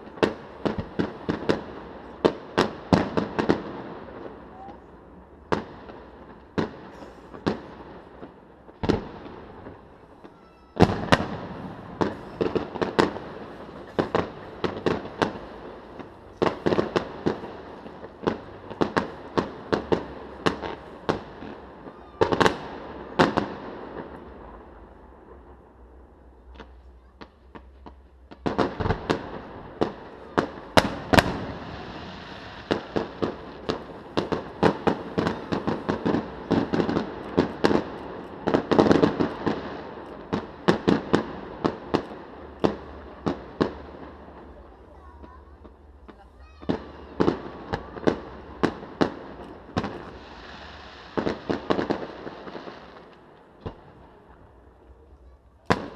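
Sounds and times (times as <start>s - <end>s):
fireworks bangs: 0.0s - 25.7s, 26.3s - 55.9s
fireworks crackle: 0.0s - 55.9s.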